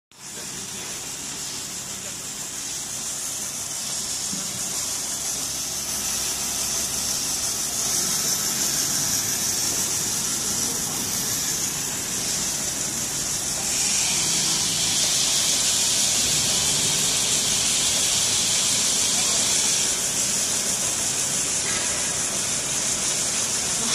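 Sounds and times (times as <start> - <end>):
film winding machine hissing: 0.2 - 23.9.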